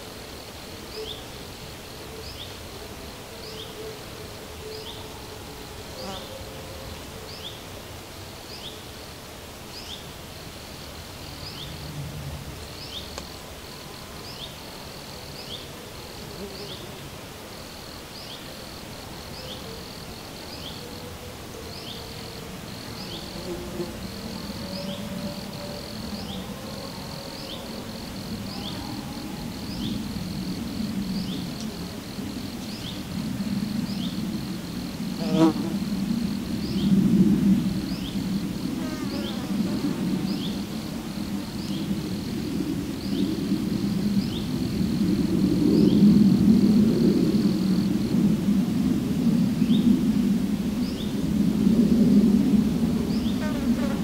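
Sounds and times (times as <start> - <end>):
flying insects buzzing: 9.7 - 54.0.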